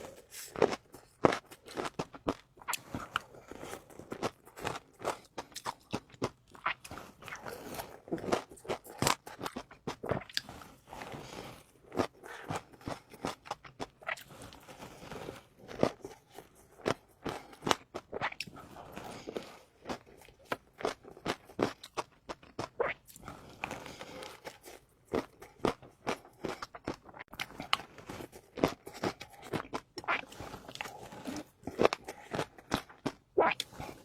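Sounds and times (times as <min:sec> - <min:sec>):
person crunching food: 0:00.0 - 0:34.0
wet chewing: 0:00.0 - 0:34.0.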